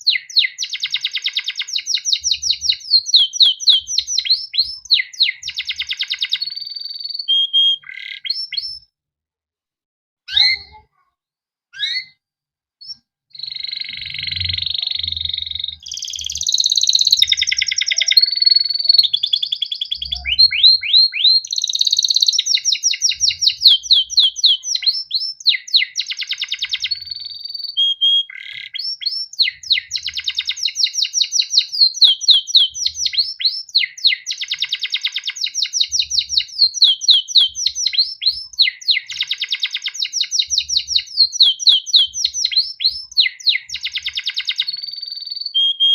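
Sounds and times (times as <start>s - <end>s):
canary singing: 0.0s - 8.9s, 10.3s - 11.0s, 11.8s - 12.2s, 12.8s - 45.9s.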